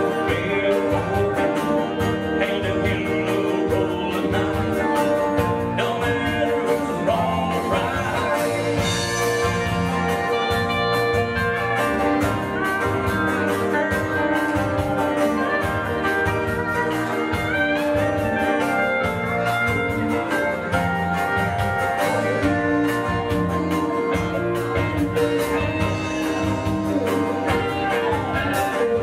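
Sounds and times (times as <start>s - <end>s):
country-rock band playing: 0.0s - 29.0s.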